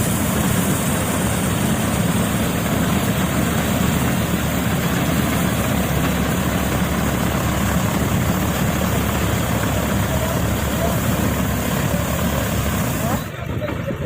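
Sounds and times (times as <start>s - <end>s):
harvester engine running: 0.0s - 14.0s
harvesting machinery clatter: 0.0s - 14.0s.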